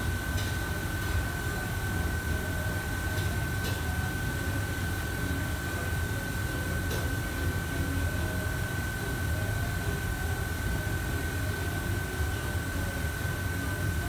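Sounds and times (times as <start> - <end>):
kitchen ventilation drone: 0.0 - 14.0.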